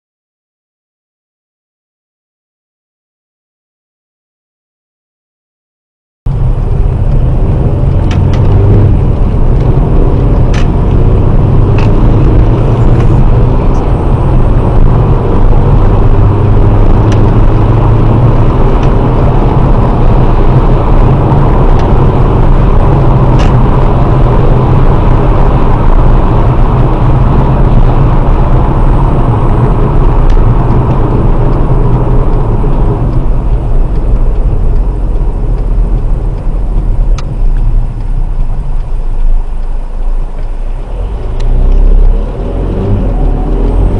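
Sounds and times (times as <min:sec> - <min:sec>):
car engine and tyre rumble: 0:06.3 - 0:43.9.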